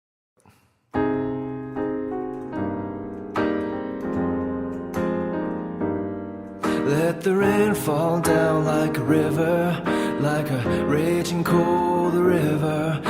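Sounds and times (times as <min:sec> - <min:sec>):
piano chords: 0:01.0 - 0:13.0.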